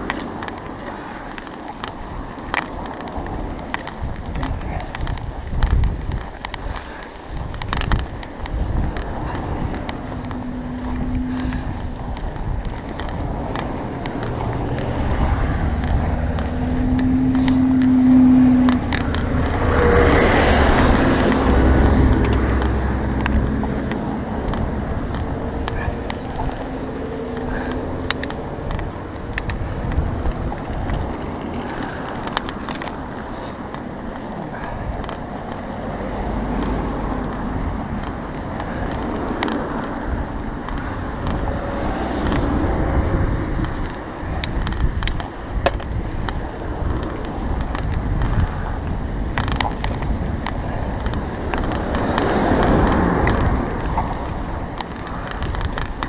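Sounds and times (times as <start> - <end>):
bicycle tyres on snow: 0.0 - 56.0
bike clicks and rattles: 0.0 - 56.0.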